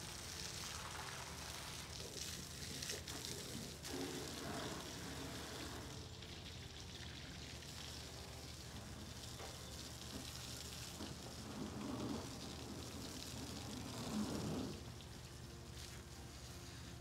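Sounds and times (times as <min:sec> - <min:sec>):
hose water spraying on metal: 0:00.0 - 0:17.0
low steady hum: 0:00.0 - 0:17.0.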